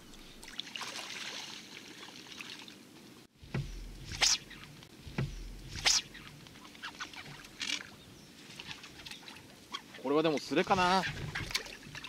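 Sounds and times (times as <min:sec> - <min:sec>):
fish splashing: 0:00.0 - 0:02.8, 0:03.6 - 0:12.0
water lapping and trickling: 0:00.0 - 0:12.0.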